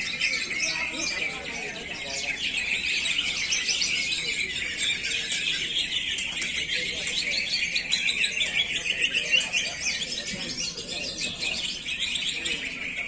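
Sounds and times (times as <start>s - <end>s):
bird singing chattering song: 0.0s - 13.0s.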